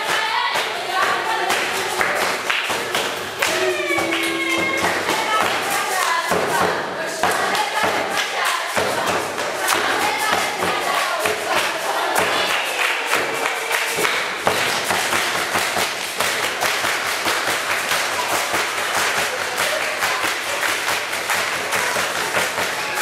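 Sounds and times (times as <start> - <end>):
children singing: 0.0 - 15.0, 18.0 - 23.0
hand-clapping: 0.0 - 23.0.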